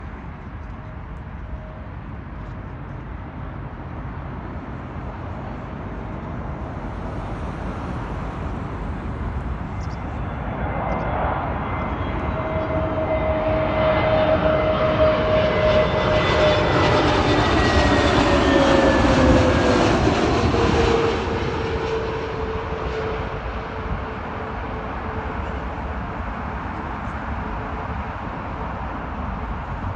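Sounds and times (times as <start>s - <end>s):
airliner engines roaring past: 0.0s - 29.9s.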